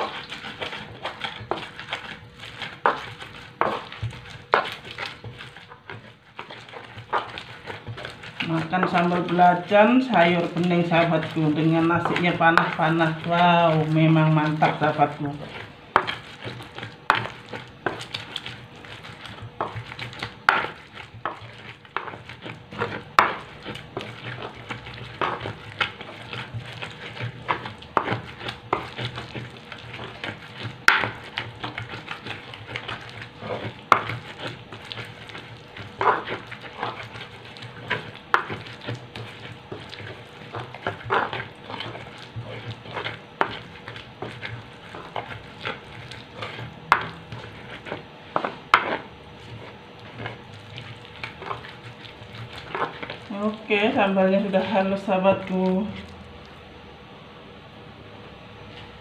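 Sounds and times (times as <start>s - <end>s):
pestle grinding in stone mortar: 0.0s - 56.5s.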